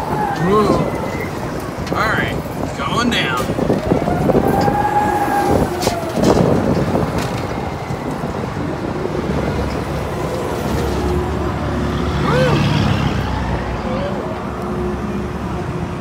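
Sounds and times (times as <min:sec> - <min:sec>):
ride cage rumbling and rattling: 0:00.0 - 0:16.0.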